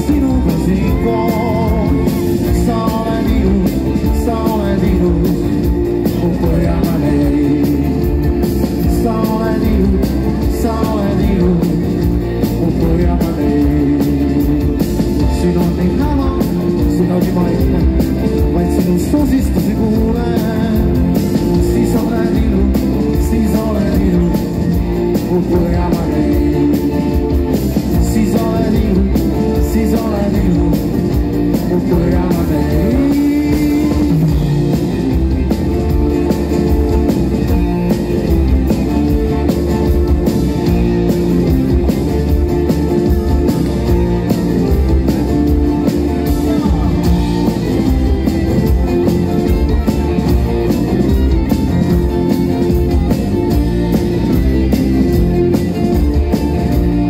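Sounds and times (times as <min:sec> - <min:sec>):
acoustic guitars: 0:00.0 - 0:57.0
drums: 0:00.0 - 0:57.0
keyboard: 0:00.0 - 0:57.0.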